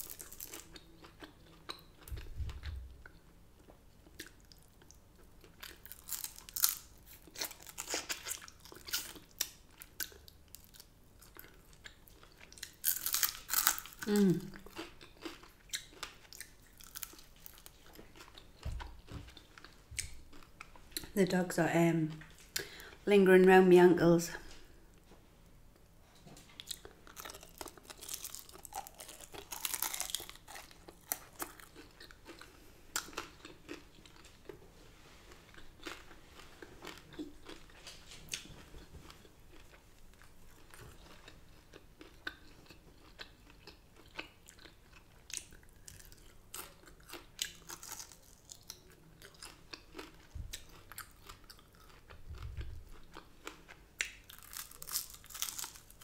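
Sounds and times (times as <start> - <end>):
person chewing crispy food: 0.0 - 21.2, 26.0 - 56.0.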